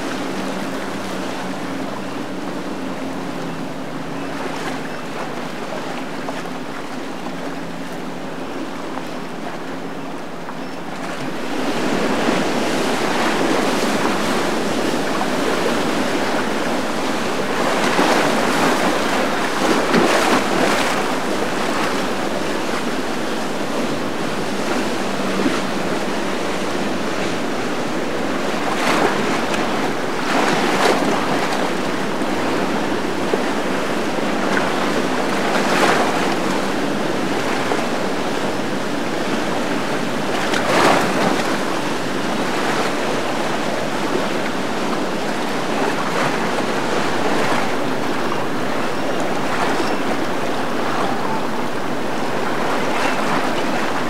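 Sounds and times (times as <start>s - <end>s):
rushing churning water: 0.0s - 54.0s.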